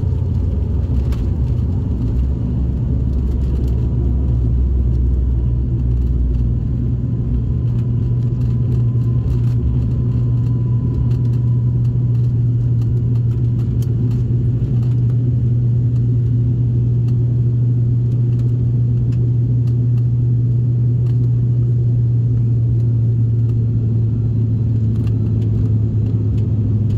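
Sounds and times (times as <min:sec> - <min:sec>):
runway rumble: 0:00.0 - 0:21.8
propeller and engine drone: 0:00.0 - 0:26.9.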